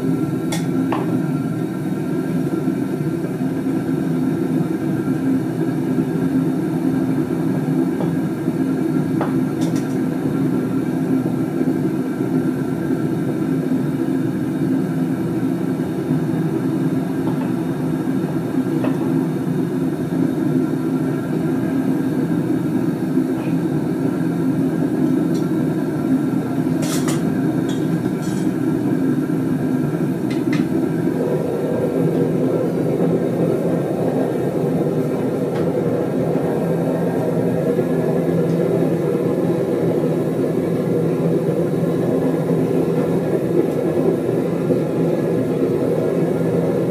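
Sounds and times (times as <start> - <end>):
gas burner roaring: 0.0 - 46.9.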